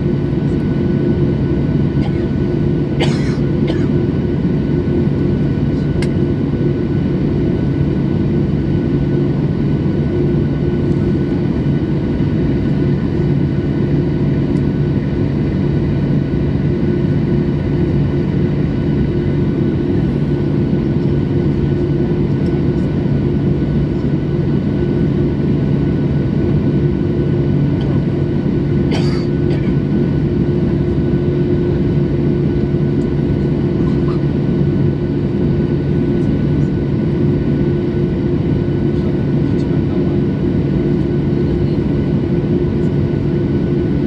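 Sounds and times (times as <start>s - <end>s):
jet engines droning in cabin: 0.0s - 44.0s.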